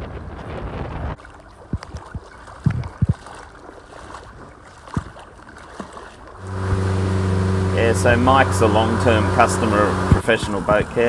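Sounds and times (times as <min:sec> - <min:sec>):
water slapping boat hull: 0:00.4 - 0:11.0
wavelets lapping at shoreline: 0:00.5 - 0:11.0.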